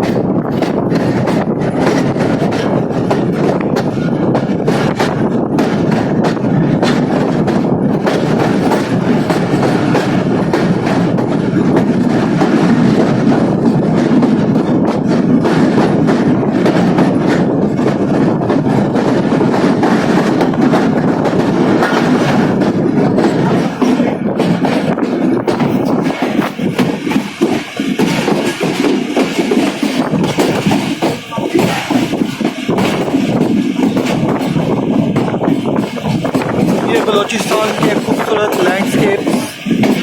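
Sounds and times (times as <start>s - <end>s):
train rumbling: 0.0s - 40.0s
wheels clacking over rail joints: 0.0s - 40.0s.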